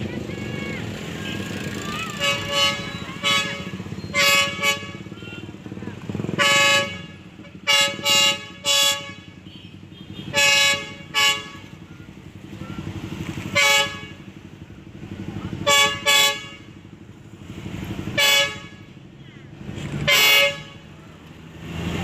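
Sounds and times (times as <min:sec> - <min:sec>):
locomotive horn toots: 0:00.0 - 0:14.6, 0:15.4 - 0:21.2.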